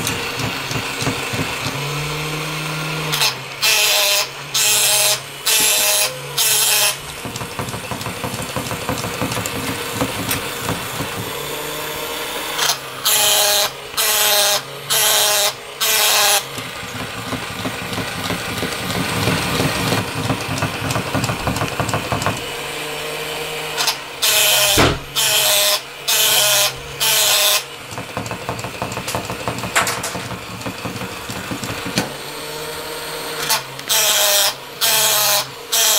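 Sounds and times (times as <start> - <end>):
small motor whirring: 0.0 - 29.8, 30.4 - 35.9.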